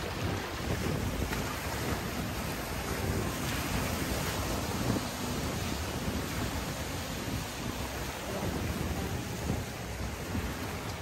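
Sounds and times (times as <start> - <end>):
sea surf: 0.0 - 11.0
wind gusting on microphone: 0.0 - 11.0.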